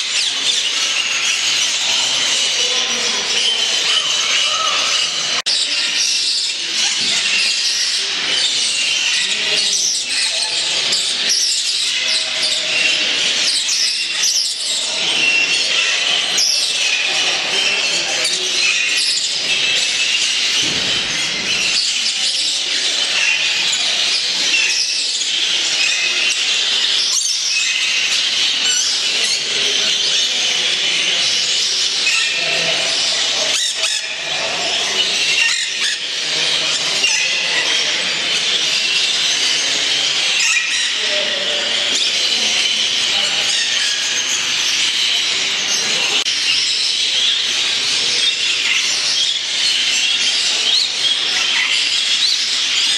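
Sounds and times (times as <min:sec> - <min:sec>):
parakeets chirping and chattering: 0:00.0 - 0:52.9.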